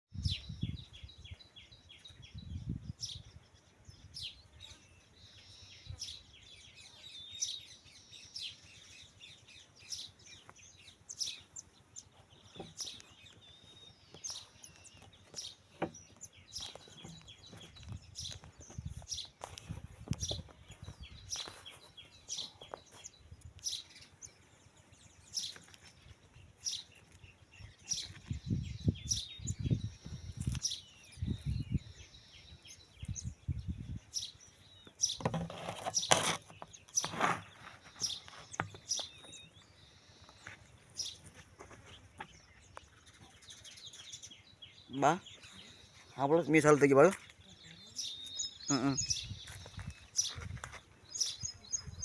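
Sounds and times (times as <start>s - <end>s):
small birds chirping: 0.1s - 52.0s.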